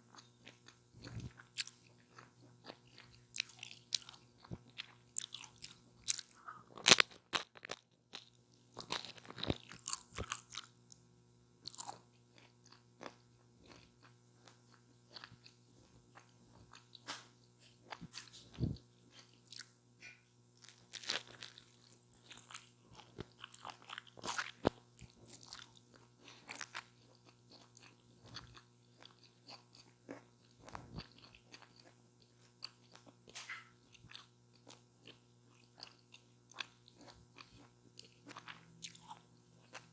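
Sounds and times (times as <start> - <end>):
crunchy biting and chewing: 0.1 - 10.9, 11.6 - 39.9.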